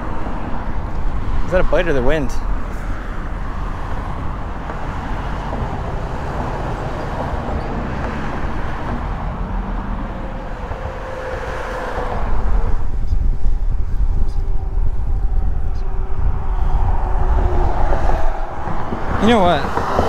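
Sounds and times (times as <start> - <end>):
road traffic noise: 0.0 - 20.0
wind rumbling on microphone: 0.0 - 20.0.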